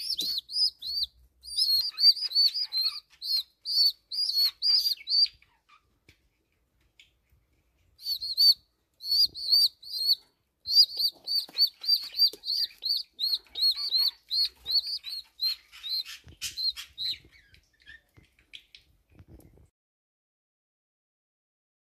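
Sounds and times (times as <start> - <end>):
pigeon chicks peeping: 0.0 - 19.6.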